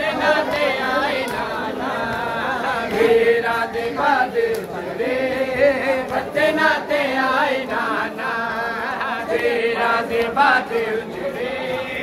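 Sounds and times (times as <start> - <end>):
crowd of men singing along: 0.0 - 12.0
men chanting a lament: 0.0 - 12.0.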